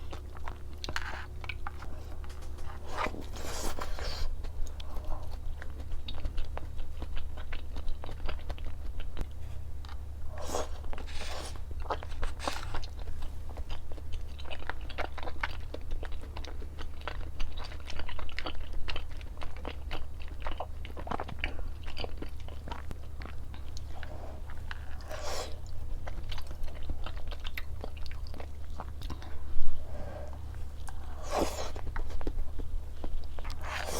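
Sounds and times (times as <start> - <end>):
crunchy chewing: 0.0 - 33.9
steady low hum: 0.0 - 33.9.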